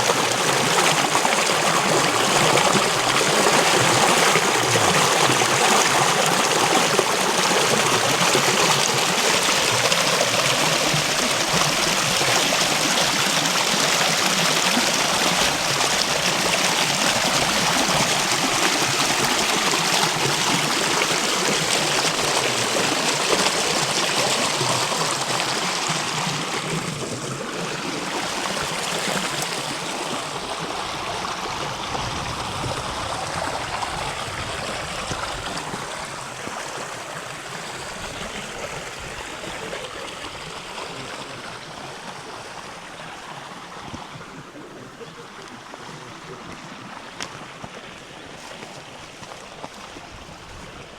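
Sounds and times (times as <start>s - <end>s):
river water running over stones: 0.0s - 50.9s.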